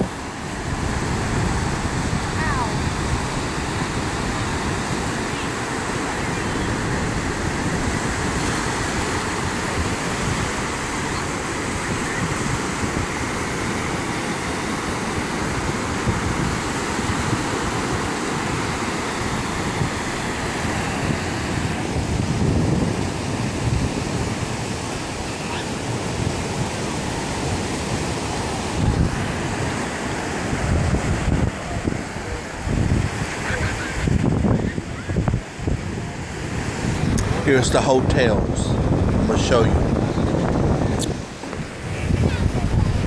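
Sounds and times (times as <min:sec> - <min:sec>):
ocean surf breaking: 0:00.0 - 0:43.0
wind rumbling on microphone: 0:00.0 - 0:43.0.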